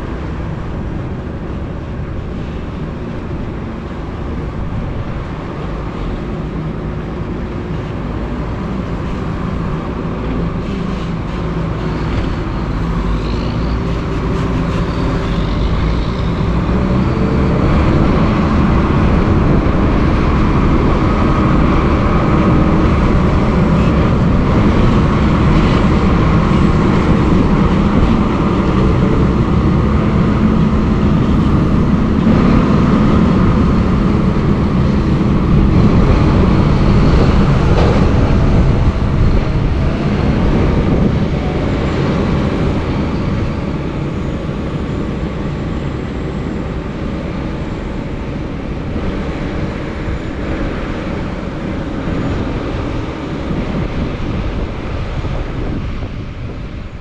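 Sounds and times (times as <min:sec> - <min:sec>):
tractor diesel engines under load: 0:00.0 - 0:57.0.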